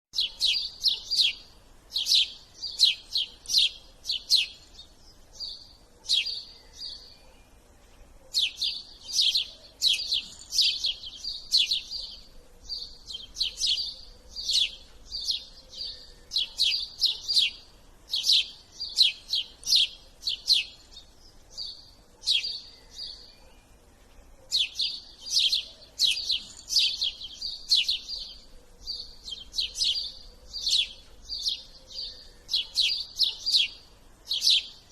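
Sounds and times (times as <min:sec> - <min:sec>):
bird chirping: 0:00.2 - 0:34.9.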